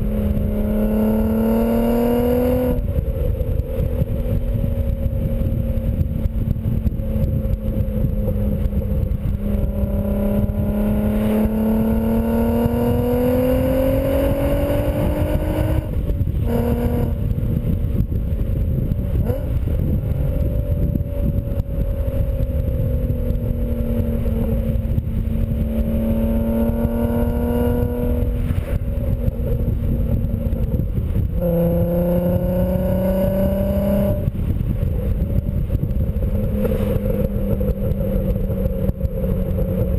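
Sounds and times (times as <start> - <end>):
car exhaust note: 0.0 - 39.9
wind rumble on microphone: 0.0 - 39.9.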